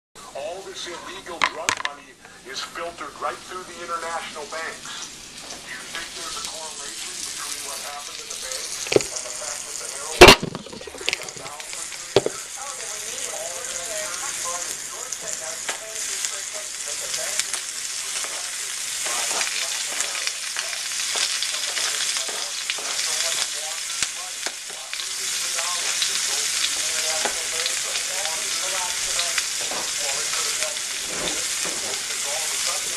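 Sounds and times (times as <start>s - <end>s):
food frying with sizzling hiss: 0.6s - 32.9s.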